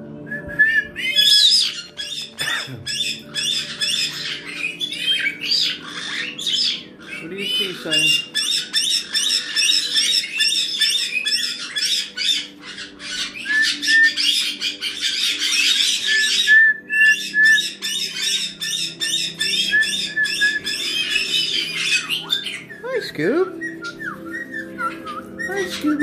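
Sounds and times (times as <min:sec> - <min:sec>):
parrots squawking and chirping: 0:01.0 - 0:26.0.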